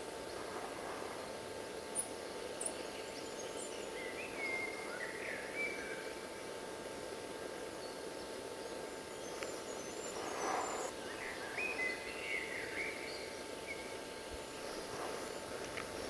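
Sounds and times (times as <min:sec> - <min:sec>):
birds calling and singing: 0:00.0 - 0:06.3, 0:07.7 - 0:16.0
faint constant whine: 0:00.0 - 0:16.0
steady hiss: 0:00.0 - 0:16.0.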